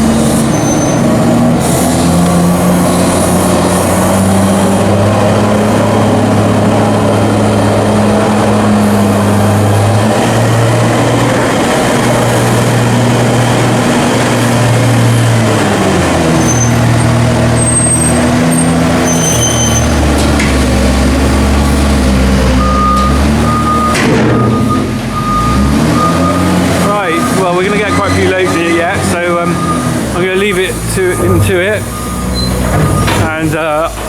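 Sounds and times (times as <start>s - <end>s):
tractor engine running hard: 0.0s - 34.0s.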